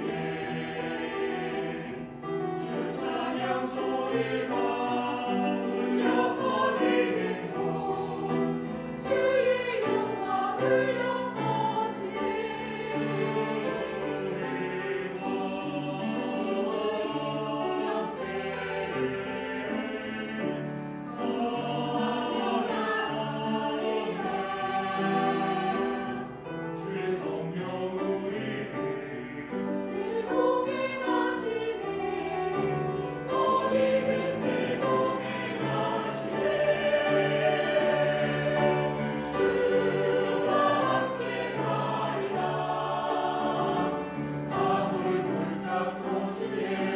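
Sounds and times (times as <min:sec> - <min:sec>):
mixed choir singing a hymn: 0:00.0 - 0:46.9.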